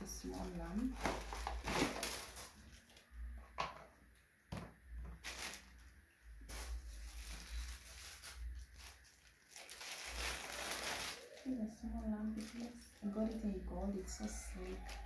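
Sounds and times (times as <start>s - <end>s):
plastic wrapping crinkling: 0.0s - 3.1s, 5.1s - 15.0s.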